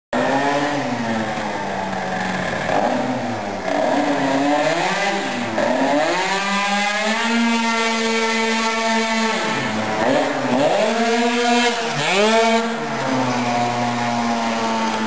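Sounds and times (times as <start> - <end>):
two-stroke scooter engine revving: 0.2 - 15.0.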